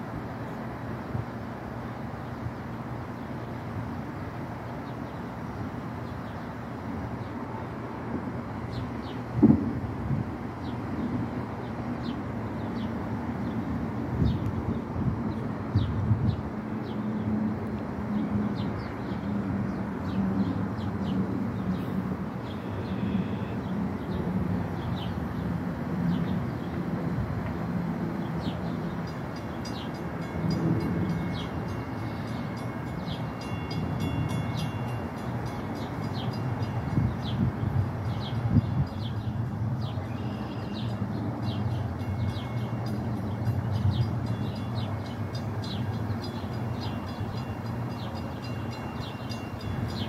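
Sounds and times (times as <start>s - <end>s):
train rumbling: 0.0s - 50.0s.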